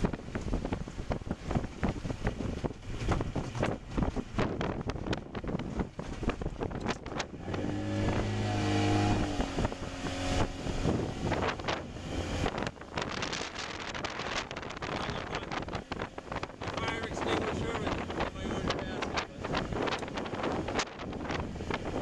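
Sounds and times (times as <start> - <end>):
boat hull slapping water: 0.0 - 22.0
outboard motor running: 0.0 - 22.0
wind buffeting microphone: 0.0 - 22.0.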